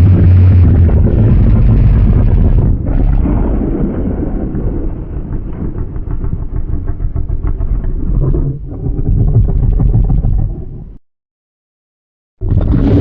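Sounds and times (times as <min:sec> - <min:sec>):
loud low dragon rumble: 0:00.0 - 0:10.6.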